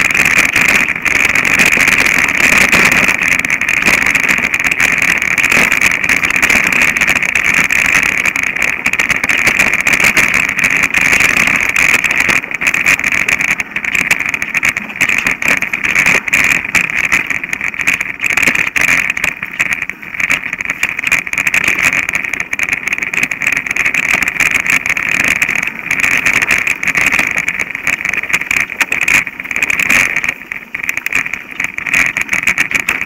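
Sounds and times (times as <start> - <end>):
bike rattling over bumps: 0.0 - 33.0
mountain bike rushing noise: 0.0 - 33.0.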